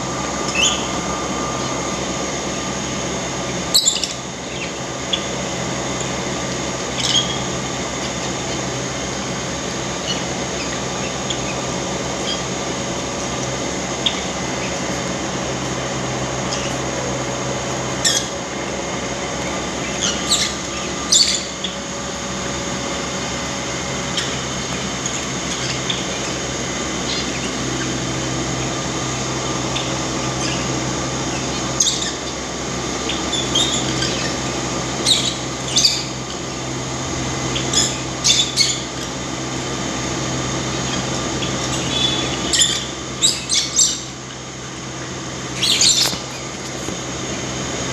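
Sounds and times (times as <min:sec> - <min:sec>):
pet birds calling: 0:00.0 - 0:47.9
steady mechanical hum: 0:00.0 - 0:47.9.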